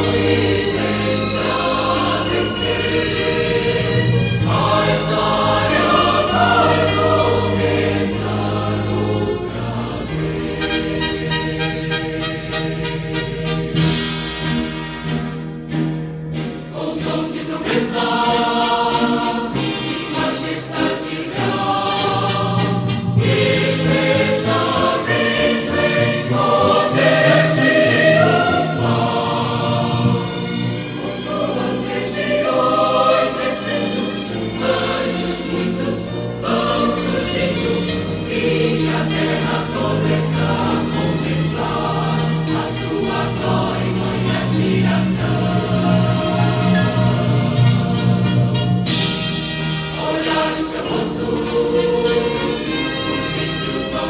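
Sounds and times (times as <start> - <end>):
choir singing hymn: 0.0 - 12.5, 16.7 - 54.0.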